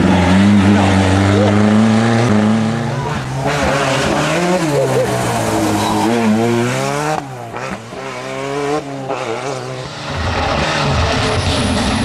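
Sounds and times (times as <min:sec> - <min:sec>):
distant engine: 0:00.0 - 0:12.0
rally car engine revving: 0:00.0 - 0:12.0.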